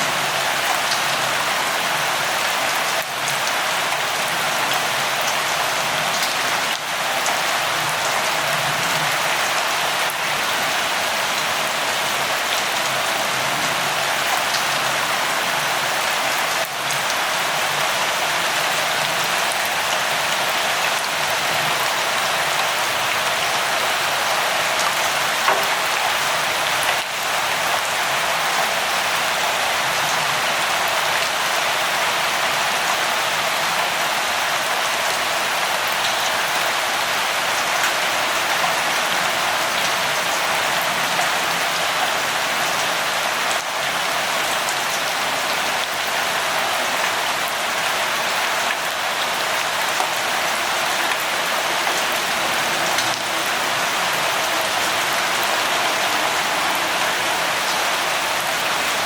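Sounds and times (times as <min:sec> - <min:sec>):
light rain pattering: 0:00.1 - 0:59.0.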